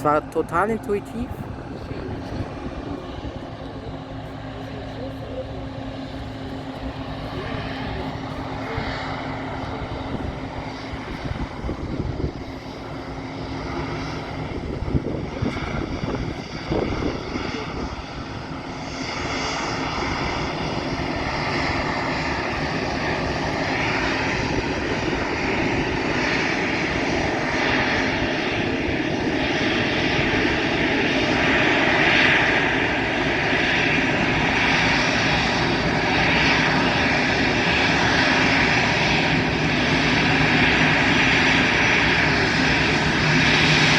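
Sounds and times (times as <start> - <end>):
jet engines whining: 0.0 - 43.9
wind buffeting microphone: 1.2 - 4.6, 5.4 - 43.9.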